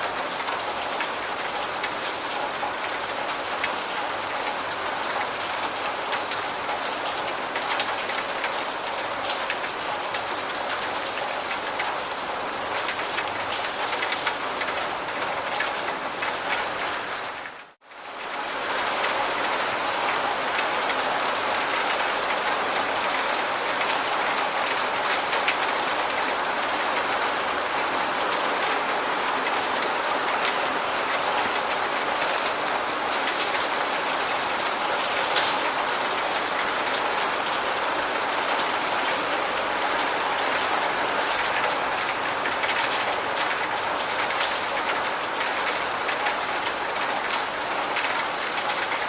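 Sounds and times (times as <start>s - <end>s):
heavy rain pattering: 0.0s - 49.0s.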